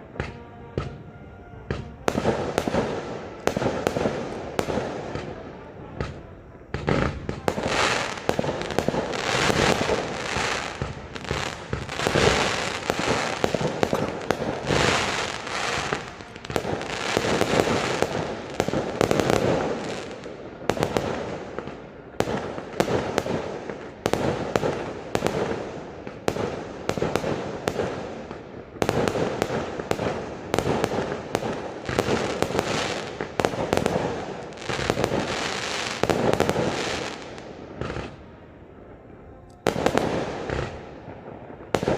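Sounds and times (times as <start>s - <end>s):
fireworks bursts and bangs: 0.0s - 41.9s.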